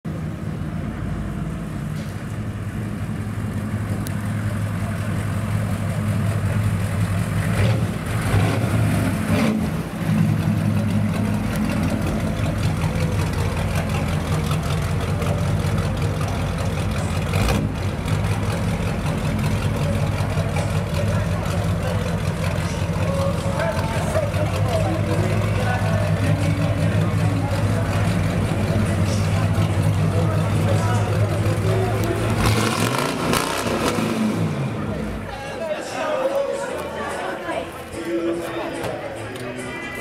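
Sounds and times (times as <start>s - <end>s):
truck engine driving slowly past: 0.1s - 40.0s.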